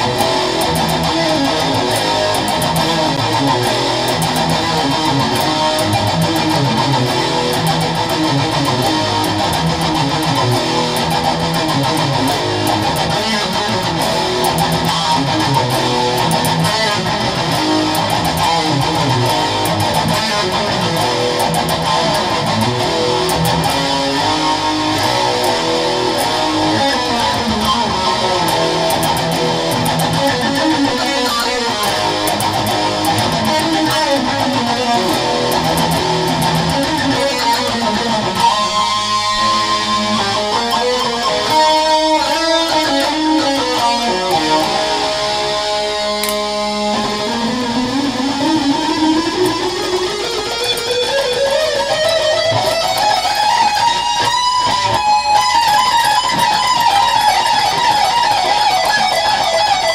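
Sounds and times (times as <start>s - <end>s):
electric guitar lead: 0.0s - 59.9s.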